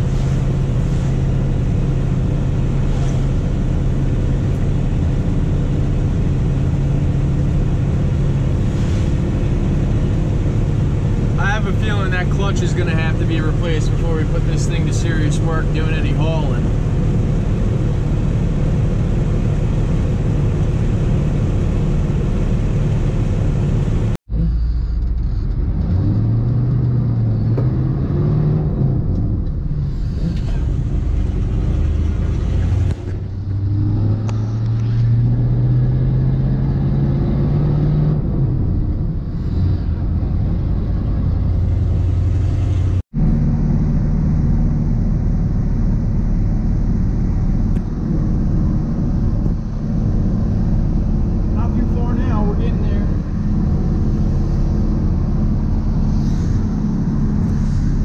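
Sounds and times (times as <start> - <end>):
diesel truck engine droning: 0.0 - 58.0
road noise: 0.0 - 58.0.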